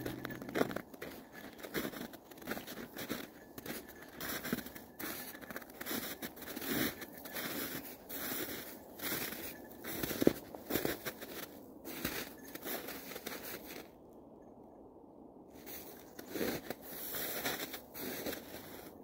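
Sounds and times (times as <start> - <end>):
footsteps crunching in snow: 0.0 - 13.9, 15.6 - 19.0.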